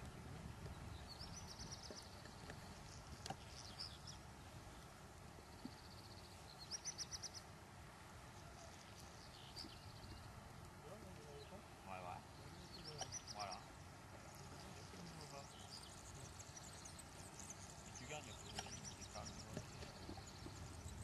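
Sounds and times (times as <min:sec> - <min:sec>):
faint trilling bird song: 0:00.0 - 0:07.6, 0:08.2 - 0:21.0
low steady background rumble: 0:00.0 - 0:21.0.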